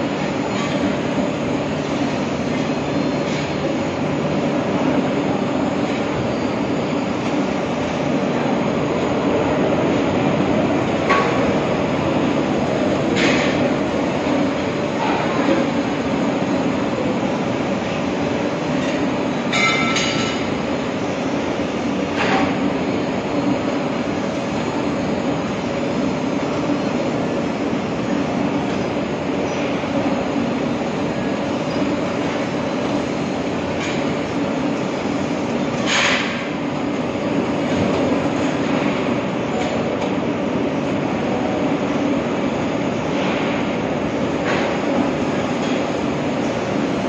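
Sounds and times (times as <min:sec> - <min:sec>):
mechanical drone with low hum: 0:00.0 - 0:47.0.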